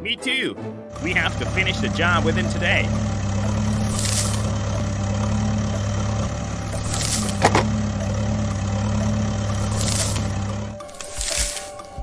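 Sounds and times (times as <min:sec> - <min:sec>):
vehicle engine idling: 0:00.9 - 0:10.9.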